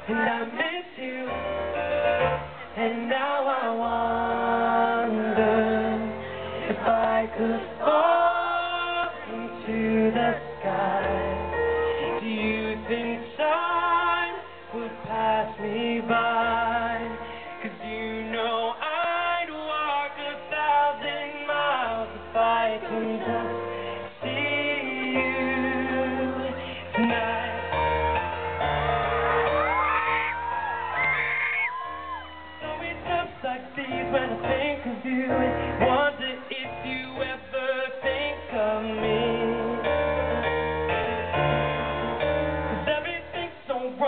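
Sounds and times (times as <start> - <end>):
man singing pop ballad: 0.0 - 28.4, 32.6 - 40.6, 42.1 - 44.0
piano: 0.0 - 44.0.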